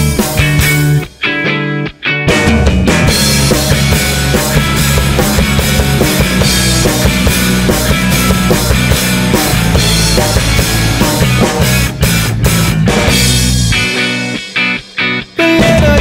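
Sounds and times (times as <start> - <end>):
drum kit fast beat: 0.0 - 1.3, 2.3 - 16.0
rock band playing: 0.0 - 16.0.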